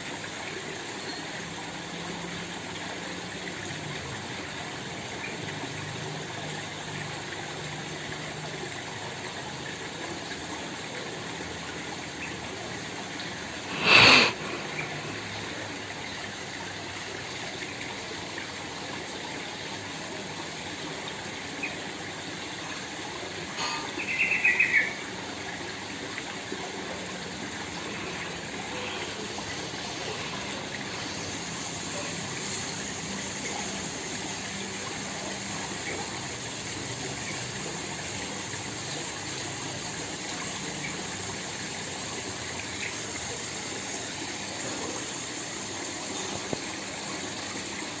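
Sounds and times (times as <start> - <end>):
small waterfall splashing: 0.0 - 48.0.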